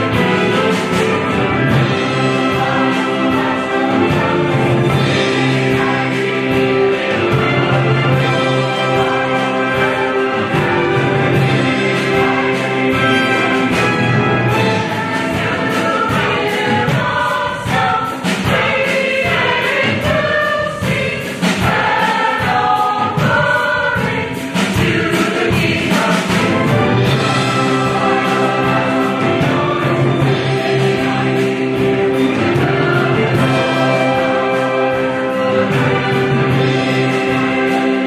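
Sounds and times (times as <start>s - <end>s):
mixed choir singing: 0.0s - 38.0s
orchestra playing: 0.0s - 38.0s.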